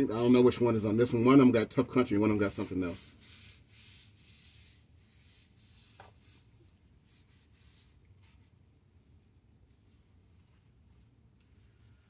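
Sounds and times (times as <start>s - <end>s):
cloth rubbing on metal: 1.9s - 12.0s.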